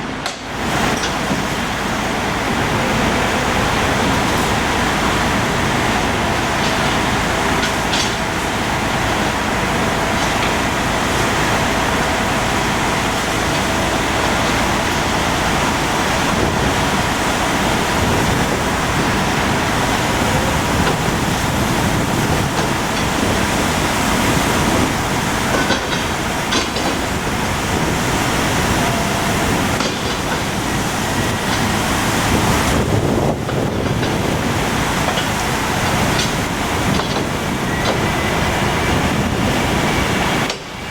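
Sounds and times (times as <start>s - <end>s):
engines and traffic: 0.0s - 40.9s.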